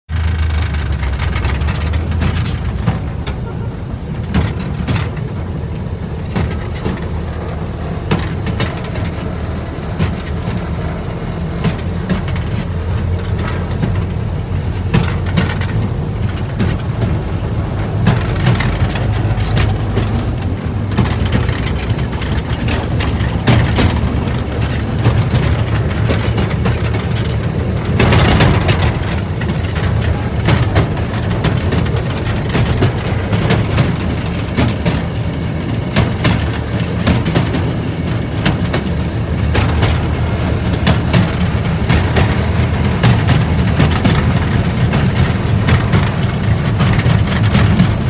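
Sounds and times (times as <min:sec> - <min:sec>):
rail car rumbling on track: 0:00.1 - 0:48.0
sharp clicks and clunks: 0:00.1 - 0:48.0.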